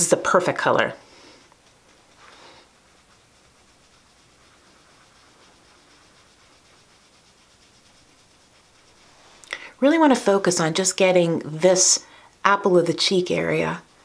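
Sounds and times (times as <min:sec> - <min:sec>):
brush on skin: 0:00.0 - 0:14.0
low room hiss: 0:00.0 - 0:14.0.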